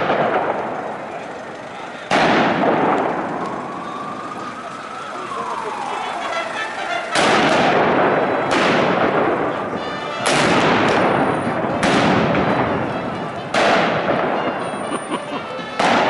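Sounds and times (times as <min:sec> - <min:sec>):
fireworks bangs: 0:00.0 - 0:15.0, 0:15.6 - 0:16.0.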